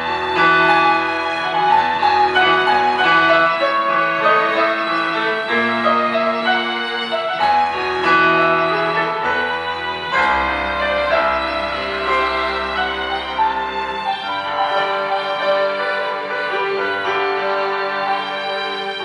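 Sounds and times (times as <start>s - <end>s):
keyboard playing piano and strings: 0.0s - 19.0s.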